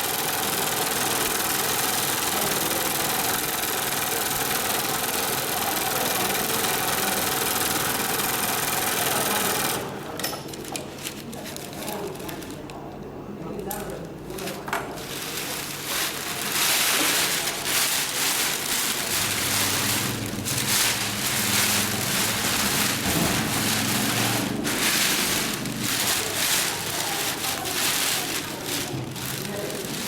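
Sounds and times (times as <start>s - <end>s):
sewing machine stitching: 0.0s - 10.0s, 15.0s - 30.0s.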